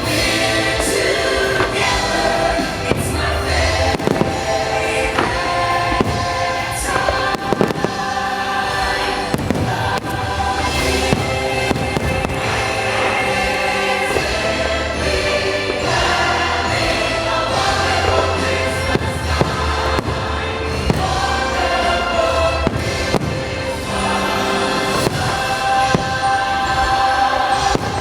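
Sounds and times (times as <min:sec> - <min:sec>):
fireworks bursting bangs: 0:00.0 - 0:28.0
music with choir singing: 0:00.0 - 0:28.0.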